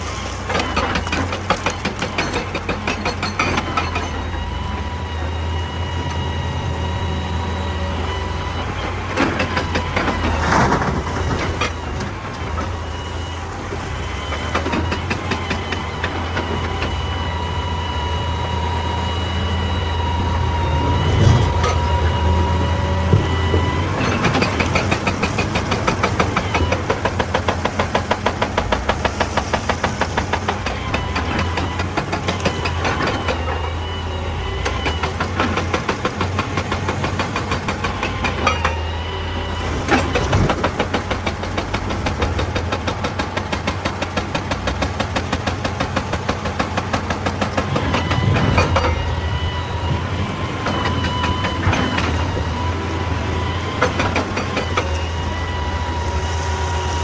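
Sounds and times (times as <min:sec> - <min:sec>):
excavator running: 0:00.0 - 0:57.0.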